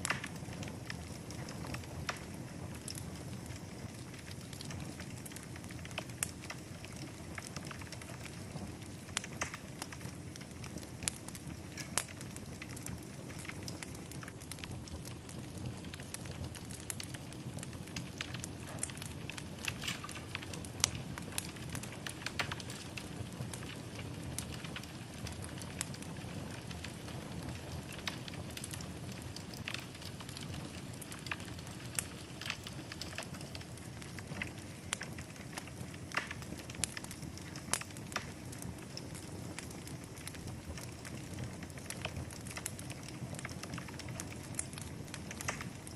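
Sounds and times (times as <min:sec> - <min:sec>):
fire crackling and popping: 0:00.0 - 0:45.9
low rush of flames: 0:00.0 - 0:45.9.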